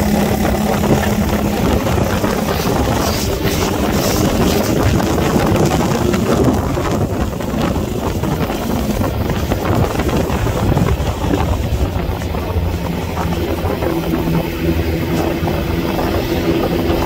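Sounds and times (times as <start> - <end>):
motorcycle engines droning: 0.0 - 17.0
wind buffeting microphone: 0.0 - 17.0.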